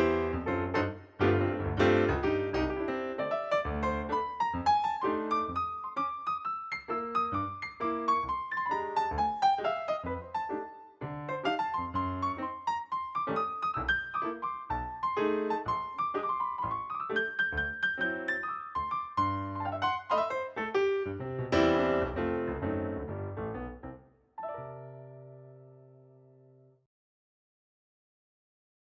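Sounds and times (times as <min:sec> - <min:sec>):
piano music: 0:00.0 - 0:26.7.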